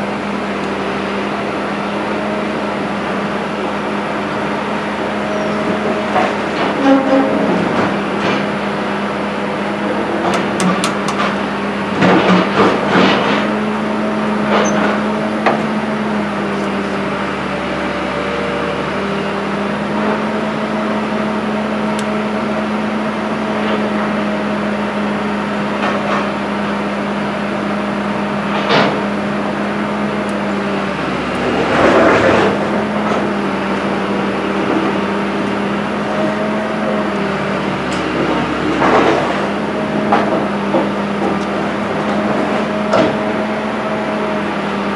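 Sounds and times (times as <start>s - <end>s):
low machine hum: 0.0s - 44.9s.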